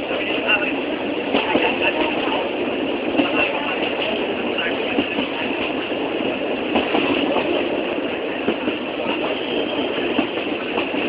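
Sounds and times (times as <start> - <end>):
train rumbling and rattling: 0.0 - 11.0.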